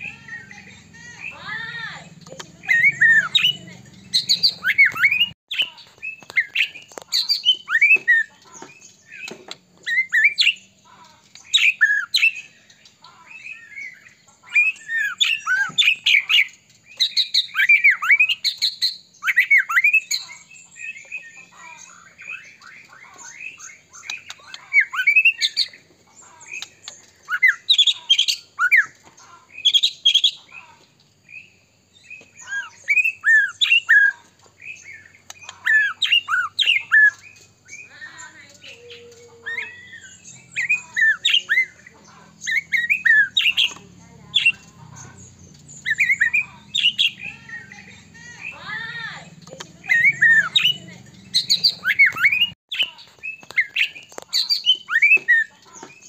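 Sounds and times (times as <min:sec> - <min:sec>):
bird singing whistled notes: 0:00.0 - 0:10.7, 0:11.4 - 0:25.8, 0:31.2 - 0:56.0.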